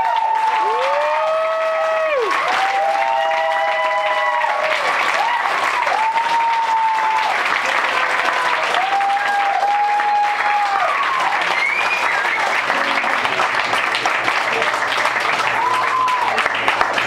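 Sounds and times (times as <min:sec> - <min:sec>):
whooping cheers: 0:00.0 - 0:07.6, 0:08.2 - 0:13.2, 0:15.4 - 0:16.6
audience applauding: 0:00.0 - 0:17.0.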